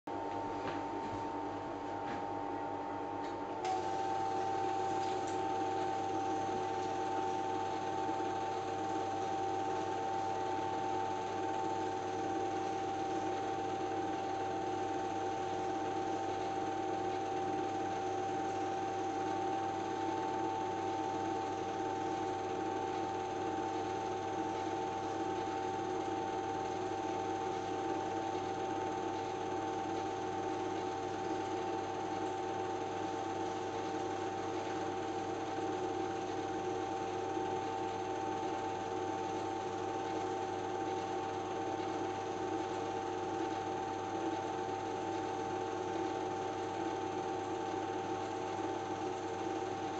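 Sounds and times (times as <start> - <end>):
film projector whirring: 3.0 - 49.9.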